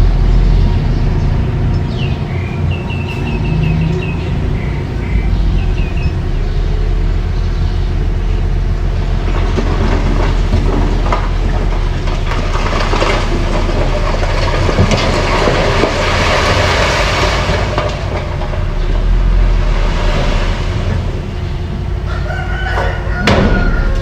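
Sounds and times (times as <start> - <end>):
bulldozer engine running: 0.0 - 24.0.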